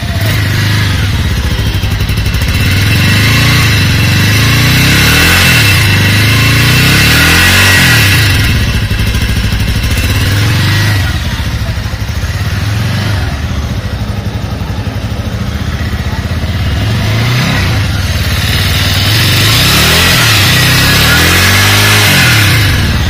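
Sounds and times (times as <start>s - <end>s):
motorcycle engine idling and revving: 0.0s - 23.0s.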